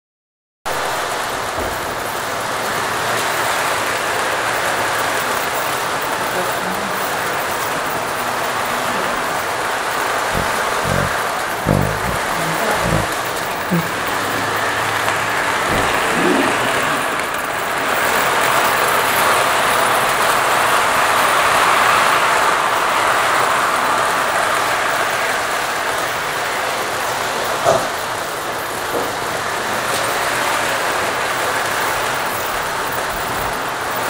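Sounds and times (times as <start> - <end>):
toy train rolling and whirring: 0.8 - 34.0.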